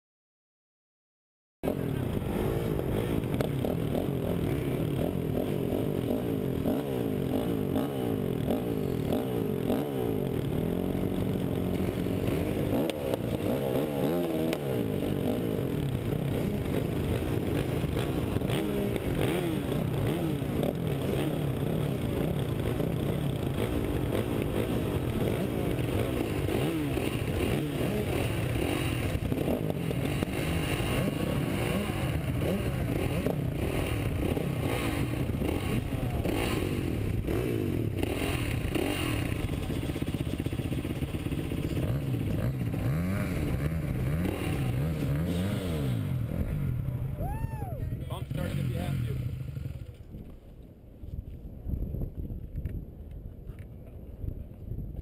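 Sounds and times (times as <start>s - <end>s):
motocross bikes idling and revving: 1.6s - 51.6s.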